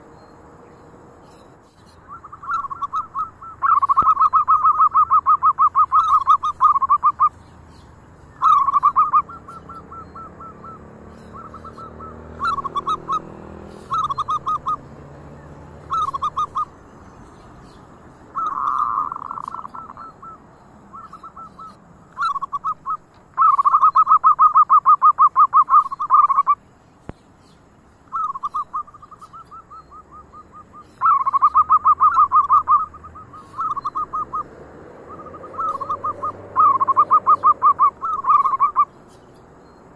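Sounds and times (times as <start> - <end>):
doves cooing: 1.7 - 26.6, 28.1 - 39.1.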